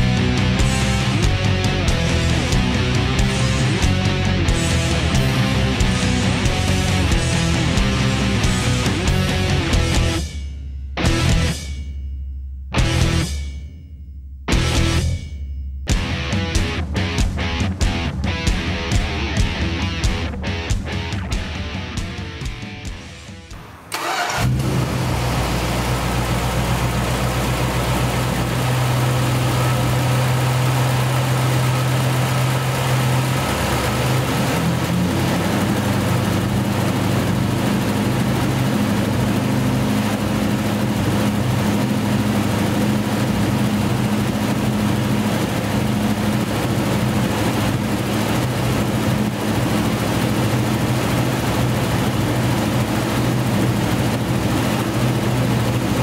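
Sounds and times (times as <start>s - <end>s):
car engine starting and idling: 0.0s - 11.6s, 15.9s - 56.0s.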